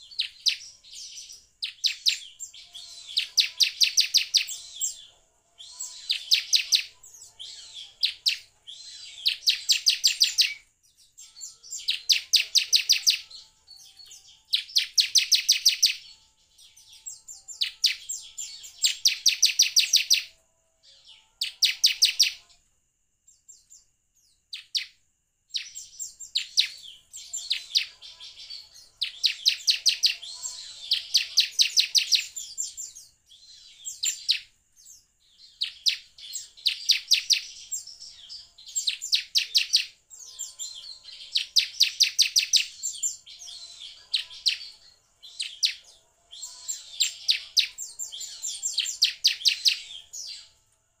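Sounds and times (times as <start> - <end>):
bird singing rattling trills: 0.0 - 22.6, 25.5 - 50.6.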